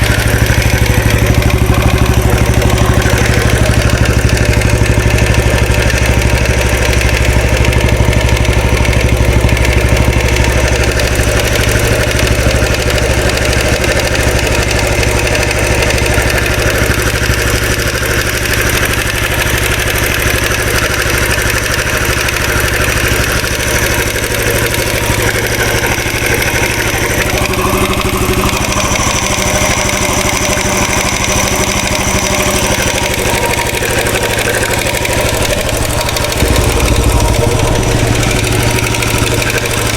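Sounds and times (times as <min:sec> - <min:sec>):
oscillating rattle: 0:00.0 - 0:18.1, 0:19.3 - 0:39.9
motorcycle engine idling: 0:00.0 - 0:39.9.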